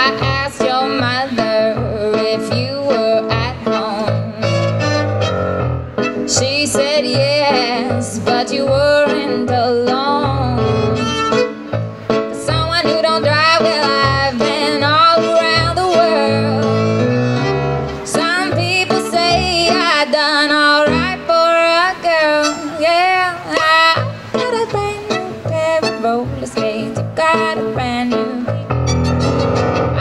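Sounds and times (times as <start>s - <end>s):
electric keyboard accompaniment: 0.0s - 30.0s
violin melody: 2.2s - 20.2s, 21.9s - 27.7s, 28.6s - 30.0s.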